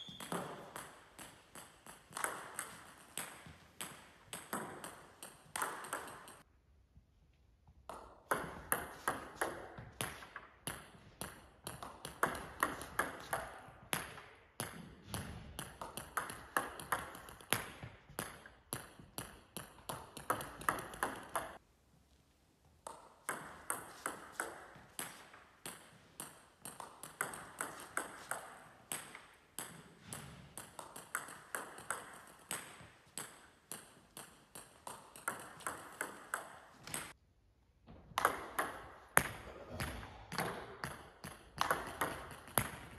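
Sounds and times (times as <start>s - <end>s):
table tennis balls clicking: 0.0s - 6.4s, 7.9s - 15.0s, 15.6s - 21.6s, 22.8s - 37.2s, 40.4s - 42.9s.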